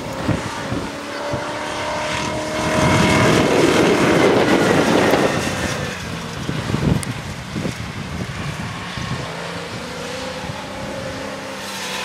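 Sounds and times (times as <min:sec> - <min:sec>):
off-road car engine working hard: 0:00.0 - 0:12.0.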